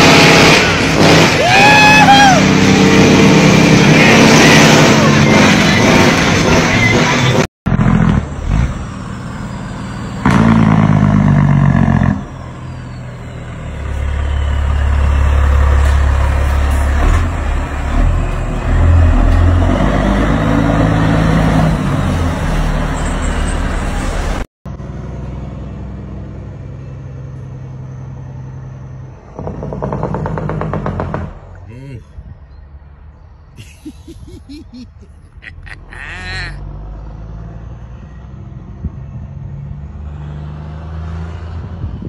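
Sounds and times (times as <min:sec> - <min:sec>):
low truck engine drone: 0:00.0 - 0:42.0.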